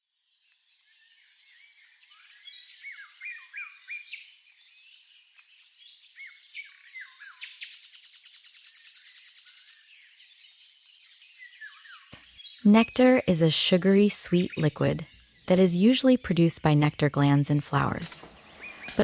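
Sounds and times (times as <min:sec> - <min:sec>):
birds singing and chirping: 0:01.0 - 0:19.0.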